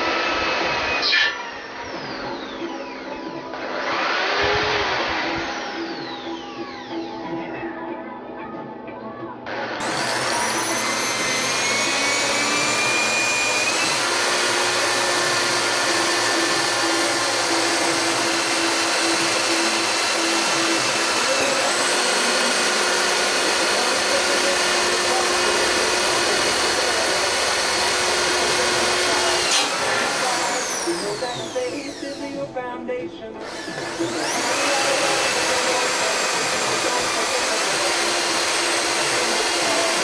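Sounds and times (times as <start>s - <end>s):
electric drill boring into metal: 0.0s - 7.1s, 9.5s - 40.0s.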